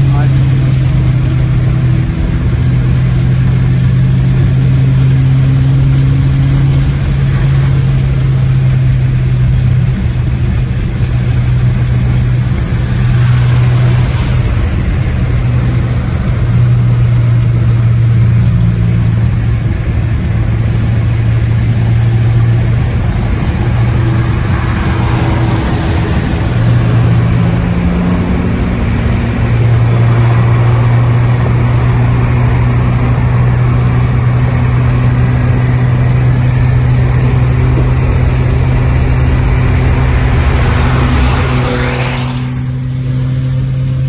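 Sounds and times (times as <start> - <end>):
loud car exhaust note: 0.0 - 44.0.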